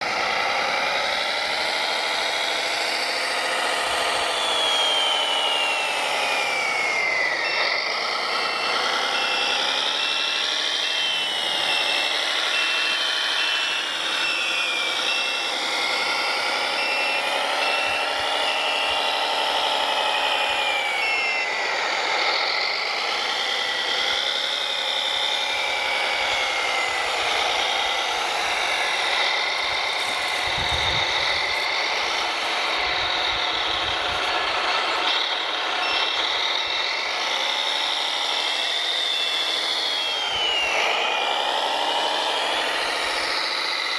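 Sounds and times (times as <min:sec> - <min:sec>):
toy machine motor whine: 0:00.0 - 0:43.9
reversing beeper: 0:00.2 - 0:43.3.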